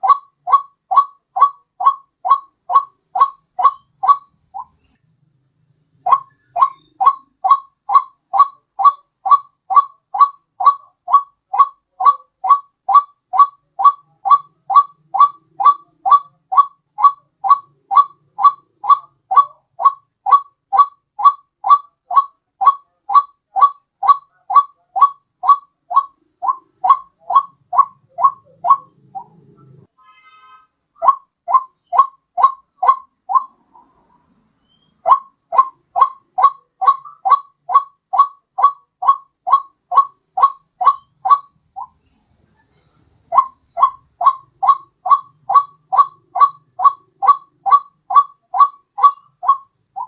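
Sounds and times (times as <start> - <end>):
waterhen repeated short call: 0.0 - 4.9, 6.0 - 29.4, 30.0 - 34.0, 34.6 - 42.0, 43.3 - 50.0.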